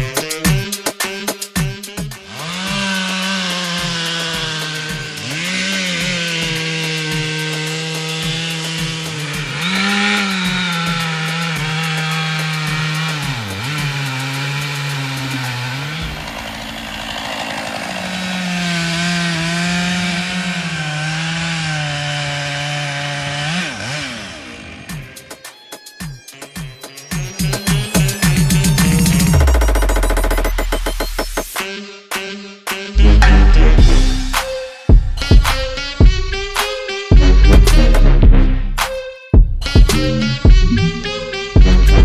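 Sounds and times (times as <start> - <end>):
chainsaw cutting wood: 0.0 - 31.7, 33.2 - 38.2.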